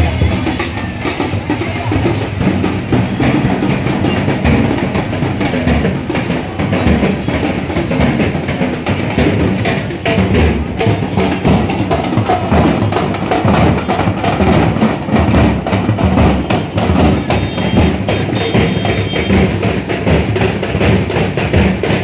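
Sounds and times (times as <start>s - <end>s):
bass drums beaten with sticks: 0.0s - 22.0s.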